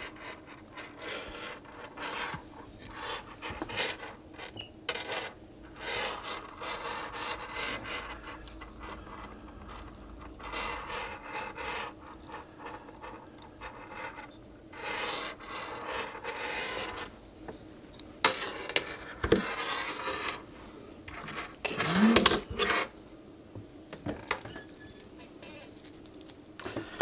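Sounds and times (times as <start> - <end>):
plastic rubbing and scraping: 0.0 - 17.6, 18.2 - 20.5, 21.1 - 23.0, 24.1 - 27.0.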